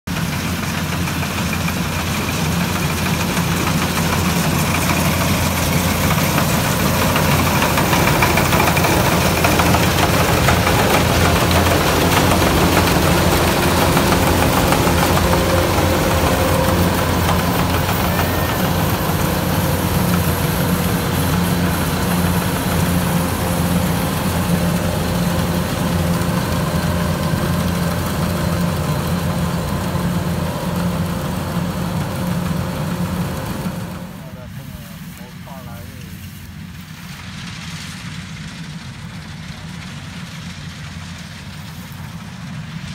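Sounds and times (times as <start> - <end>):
diesel engine drone: 0.1 - 42.9
harvesting machinery noise: 0.1 - 42.9.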